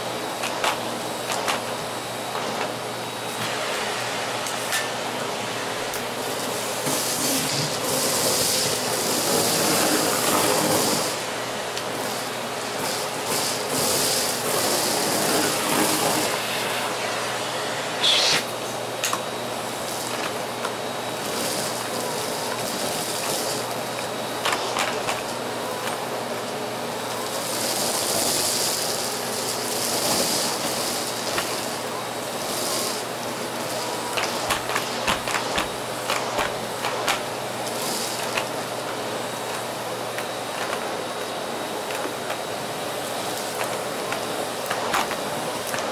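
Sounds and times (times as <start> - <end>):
paper rushing through vacuum: 0.0 - 45.9
vacuum cleaner running: 0.0 - 45.9.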